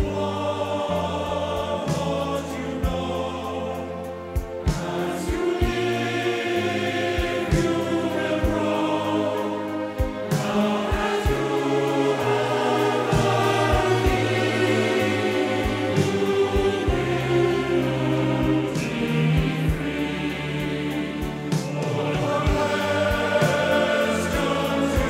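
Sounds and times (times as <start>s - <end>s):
sustained chords and bass: 0.0s - 25.0s
wordless choir-like vocals: 0.0s - 25.0s.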